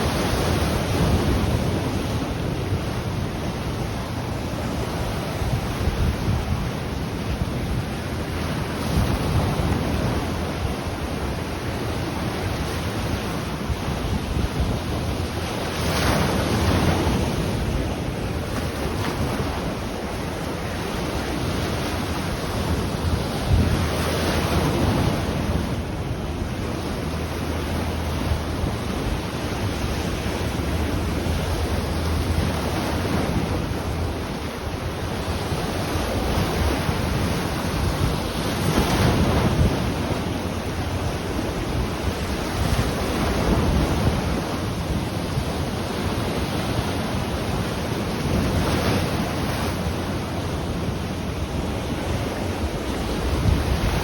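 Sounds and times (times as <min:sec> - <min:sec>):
ocean waves breaking on shore: 0:00.0 - 0:54.0
wind rumbling on microphone: 0:00.0 - 0:54.0.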